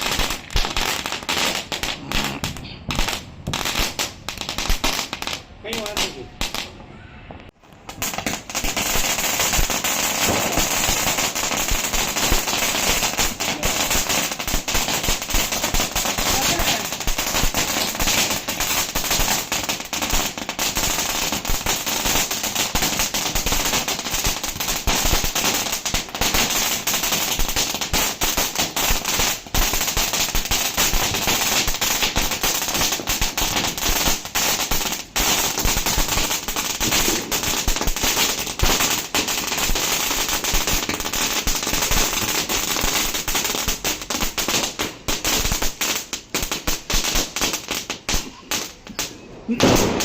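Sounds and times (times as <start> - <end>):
firework rattle of pops and crackles: 0.0 - 6.8, 7.6 - 50.0.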